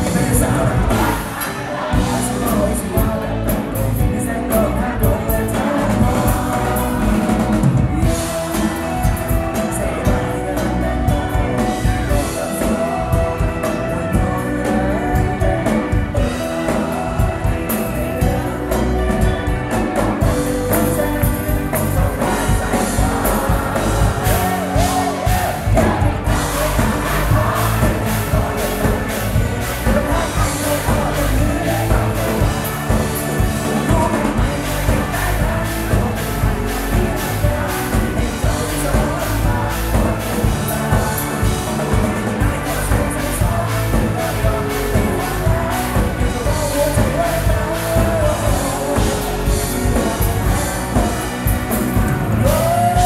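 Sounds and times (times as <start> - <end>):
live rock band playing: 0.0 - 53.0
man singing: 0.0 - 53.0.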